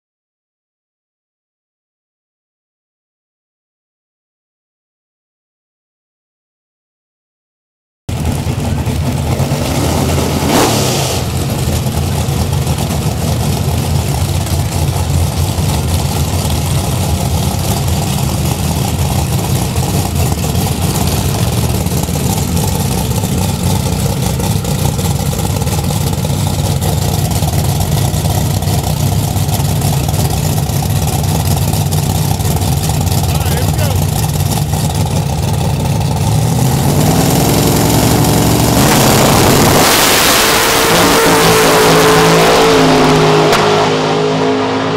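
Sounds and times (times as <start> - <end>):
drag race engines rumbling: 8.1 - 44.9.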